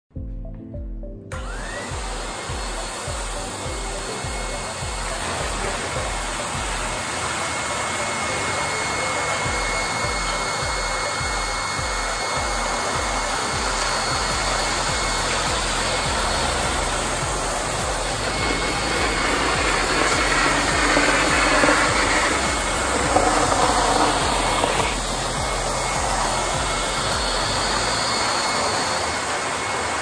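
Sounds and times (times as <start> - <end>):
electric air blower whining: 1.3 - 30.0.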